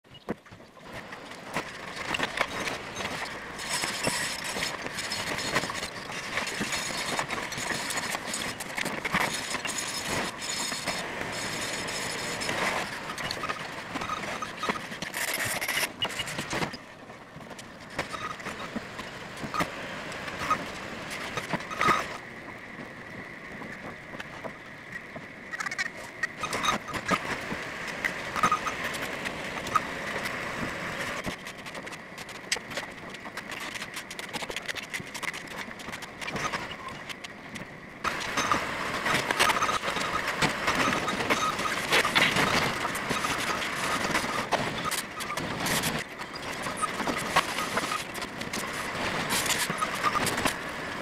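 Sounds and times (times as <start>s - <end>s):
construction site background noise: 0.1s - 51.0s.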